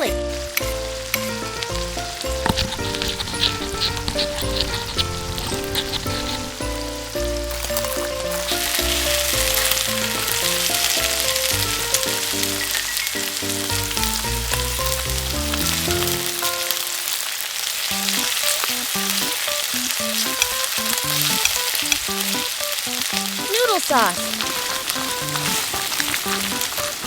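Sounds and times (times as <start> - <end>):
light background melody: 0.0 - 17.2, 17.9 - 27.0
garlic sizzling in hot oil: 0.0 - 27.0.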